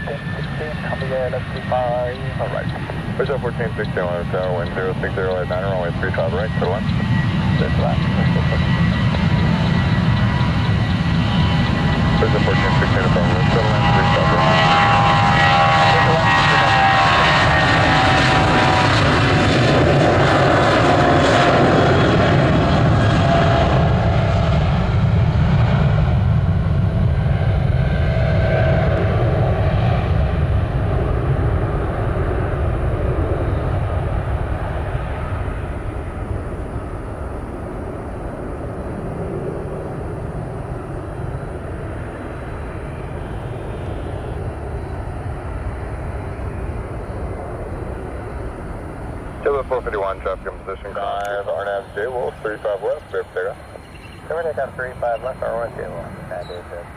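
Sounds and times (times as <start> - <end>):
jet engines at takeoff thrust: 0.0 - 56.9.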